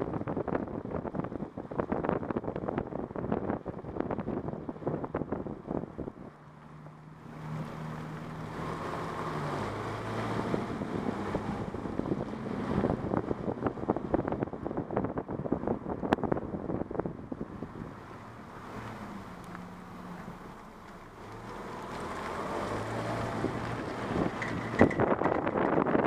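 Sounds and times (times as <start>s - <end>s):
car engine hum: 0.0s - 26.0s.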